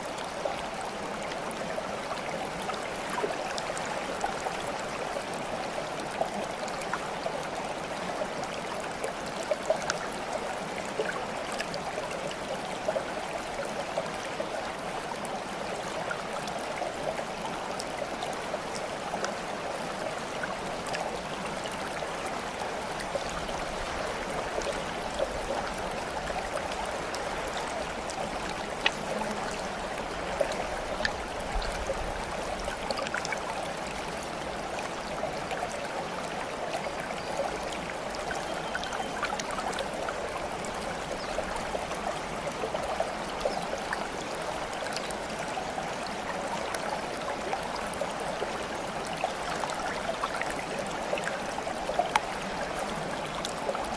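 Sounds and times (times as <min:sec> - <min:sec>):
flowing stream water: 0:00.0 - 0:53.9
water drips and splashes: 0:00.0 - 0:53.9.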